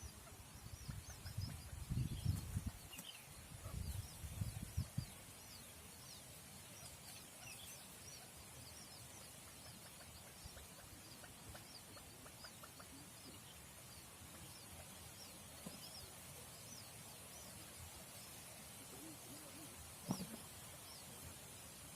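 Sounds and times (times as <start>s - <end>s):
bird chicks peeping: 0.0s - 21.2s.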